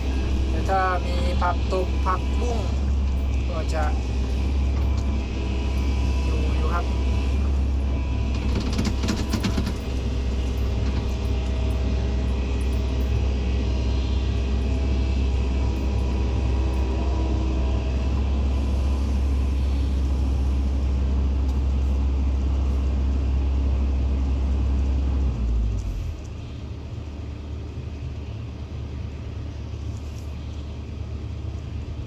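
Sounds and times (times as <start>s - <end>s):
excavator diesel engine droning: 0.0s - 32.0s.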